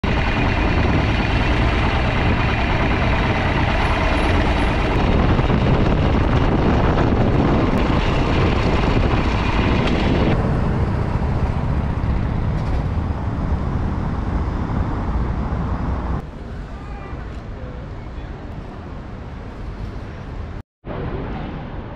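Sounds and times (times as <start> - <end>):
wind and road noise: 0.0 - 21.9.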